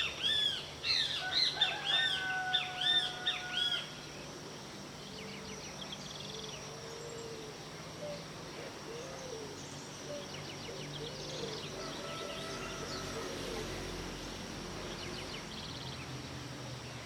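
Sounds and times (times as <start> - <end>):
insect drone: 0.0 - 17.0.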